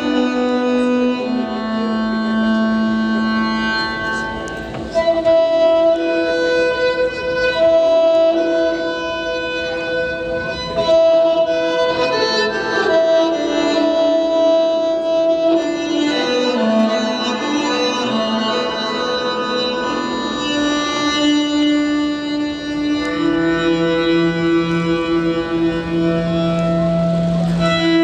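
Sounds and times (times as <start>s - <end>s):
long strings stroked by hand: 0.0s - 28.0s.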